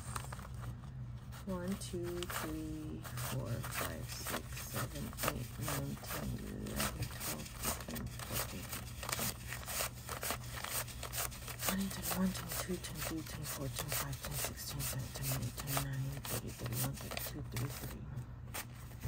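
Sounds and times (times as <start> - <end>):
banknotes rustling and flicking: 0.0 - 19.0
steady low hum: 0.0 - 19.0.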